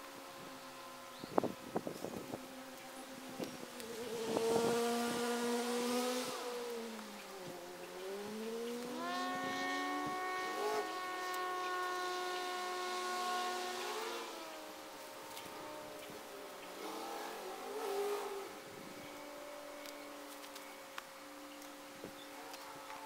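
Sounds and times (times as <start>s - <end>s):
engine changing revs: 1.7s - 23.0s.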